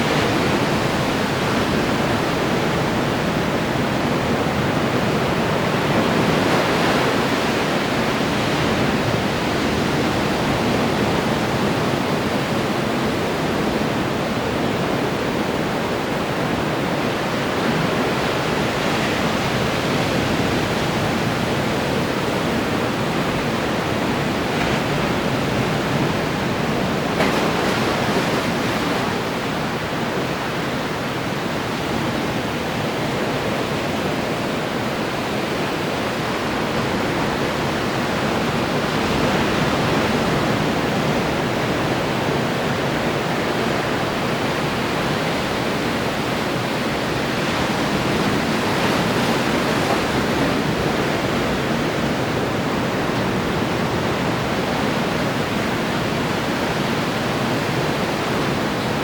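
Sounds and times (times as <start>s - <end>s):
ocean surf breaking on shore: 0.0s - 59.0s.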